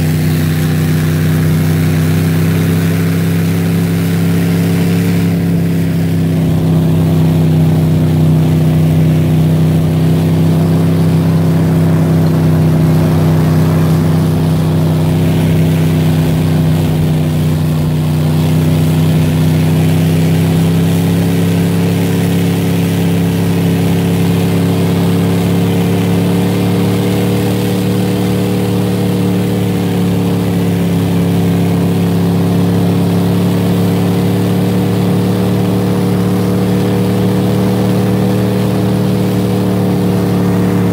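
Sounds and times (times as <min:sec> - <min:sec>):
snowcat engine droning: 0:00.0 - 0:40.9.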